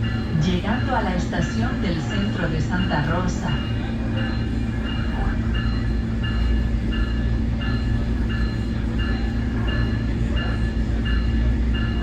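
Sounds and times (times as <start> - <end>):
train diesel rumble: 0.0 - 12.0.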